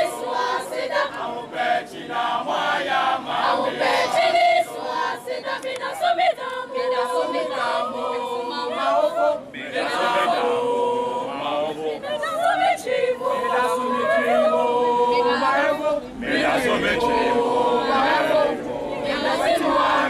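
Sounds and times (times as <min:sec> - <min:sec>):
children's choir singing a cappella: 0:00.0 - 0:20.0.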